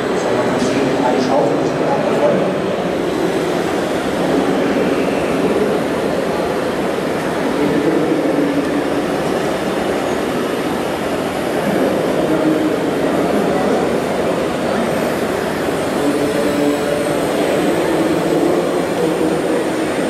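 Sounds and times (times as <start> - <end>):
exhibition hall crowd noise: 0.0 - 20.0.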